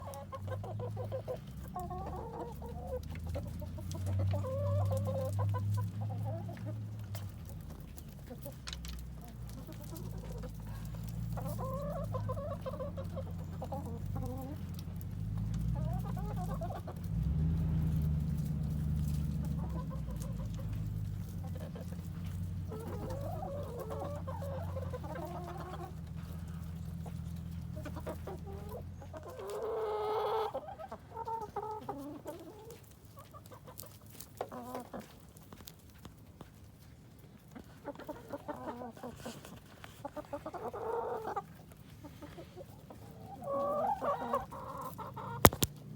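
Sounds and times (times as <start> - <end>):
hens clucking: 0.0 - 45.9.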